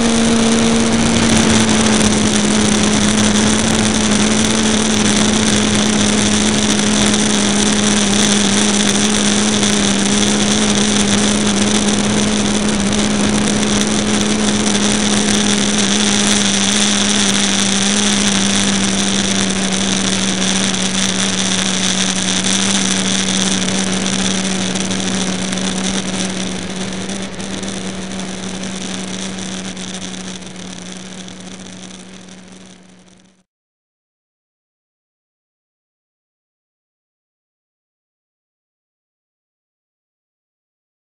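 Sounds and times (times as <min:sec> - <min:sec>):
electric plane motor whining: 0:00.0 - 0:33.0
rushing air: 0:00.0 - 0:33.3.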